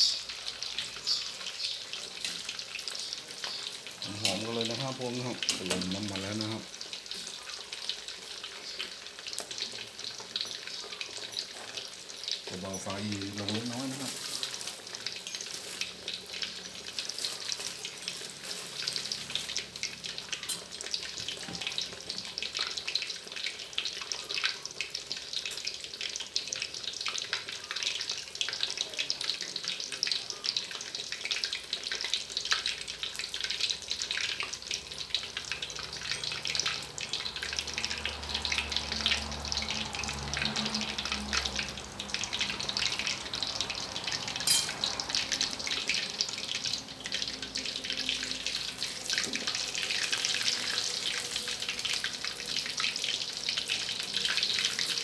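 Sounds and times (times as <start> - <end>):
food deep-frying in oil: 0.0 - 55.0.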